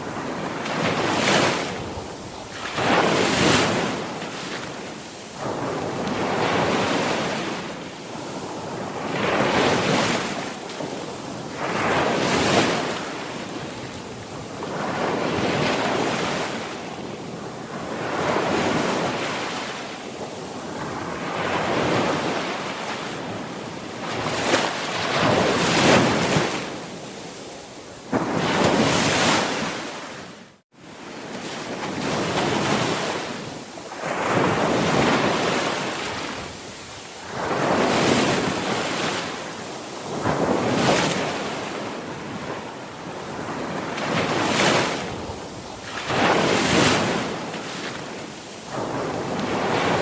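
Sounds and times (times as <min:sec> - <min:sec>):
sea waves breaking on shore: 0:00.0 - 0:50.0.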